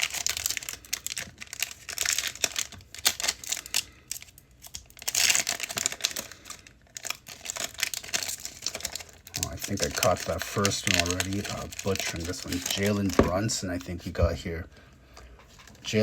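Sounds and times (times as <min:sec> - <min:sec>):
foil wrapper crinkling: 0:00.0 - 0:14.1.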